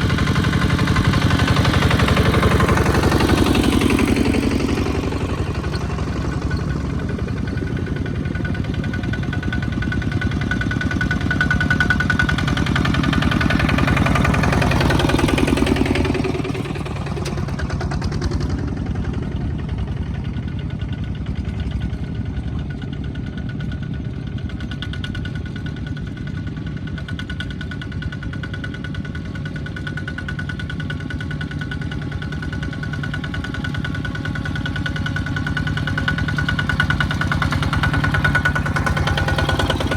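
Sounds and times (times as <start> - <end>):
small tractor engine knocking: 0.0 - 39.9.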